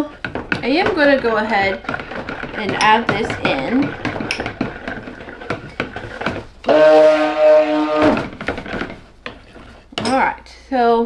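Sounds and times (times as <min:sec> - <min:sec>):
stick blender buzzing: 0:00.0 - 0:10.4
containers and utensils clinking: 0:00.0 - 0:10.5.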